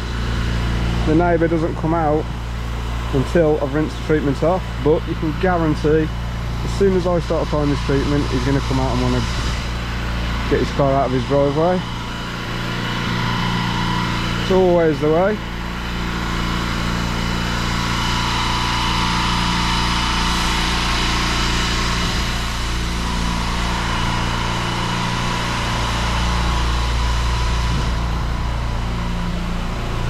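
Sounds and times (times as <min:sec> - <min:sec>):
pressure washer engine running: 0:00.0 - 0:30.0.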